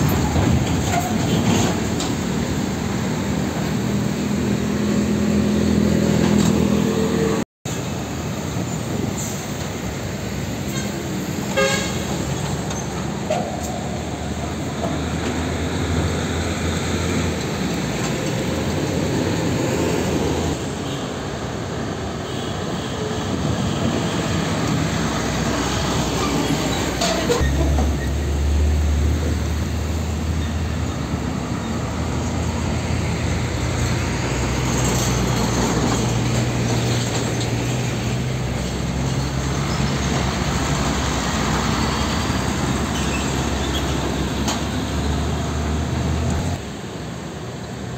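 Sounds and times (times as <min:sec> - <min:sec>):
diesel truck engines passing: 0:00.0 - 0:47.9.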